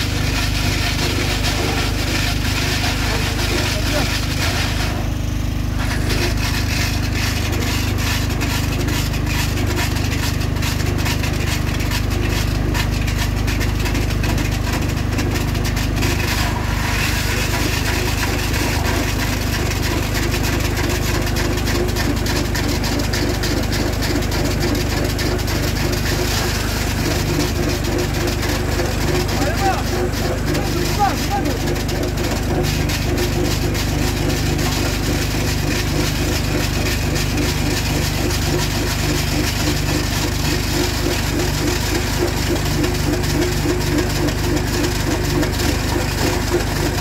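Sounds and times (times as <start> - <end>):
core drill motor droning: 0.0 - 47.0
crackle of grinding grit: 0.0 - 47.0.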